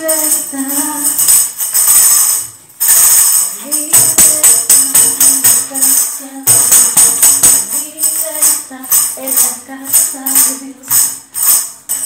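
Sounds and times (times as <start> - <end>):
tambourine jingling: 0.0 - 12.0.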